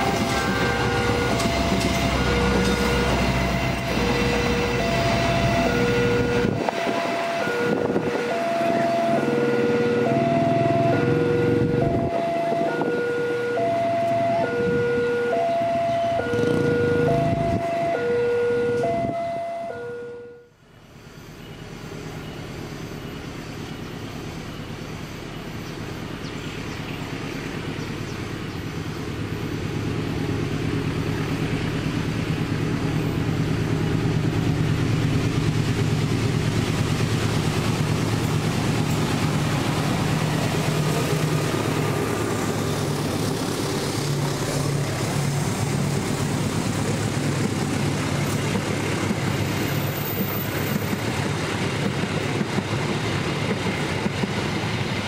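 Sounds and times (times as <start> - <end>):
train wheels rushing on rails: 0.0 - 19.2, 21.0 - 55.0
diesel locomotive engine passing: 0.0 - 55.0.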